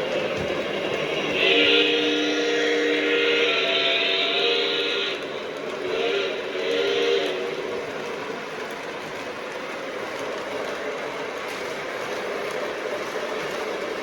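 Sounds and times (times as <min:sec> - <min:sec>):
model train rumbling on track: 0:00.0 - 0:14.0.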